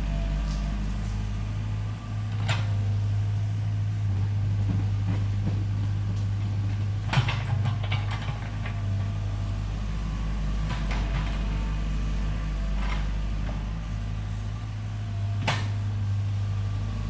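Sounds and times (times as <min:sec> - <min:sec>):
excavator engine humming: 0:00.0 - 0:17.0.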